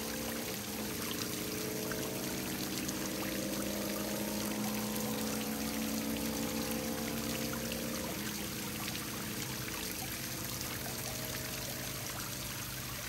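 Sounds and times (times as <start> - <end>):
waterfall splashing into pond: 0.0 - 13.0.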